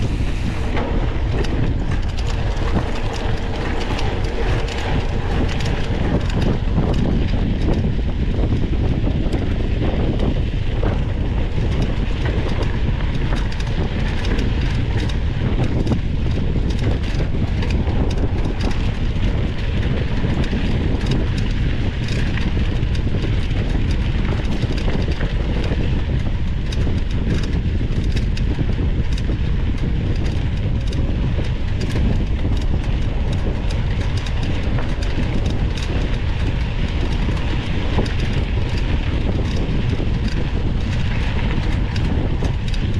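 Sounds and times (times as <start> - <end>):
bike rattling over bumps: 0.0 - 42.9
wind rumble on microphone: 0.0 - 42.9.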